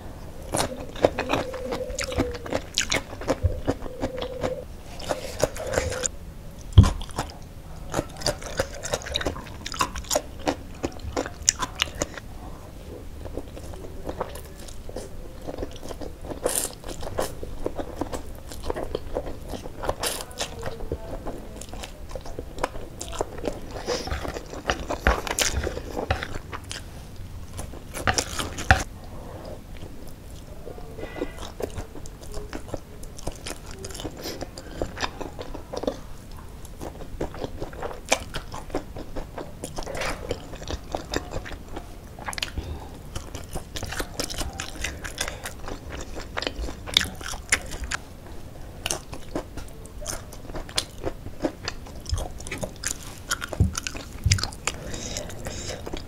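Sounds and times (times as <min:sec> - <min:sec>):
chewing and slurping noodles: 0:00.0 - 0:06.1, 0:06.8 - 0:48.1, 0:48.7 - 0:56.0.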